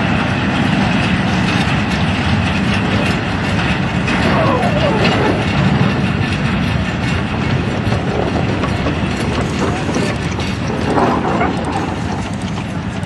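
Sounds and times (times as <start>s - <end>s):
train wagons rattling and clanking: 0.0s - 13.0s.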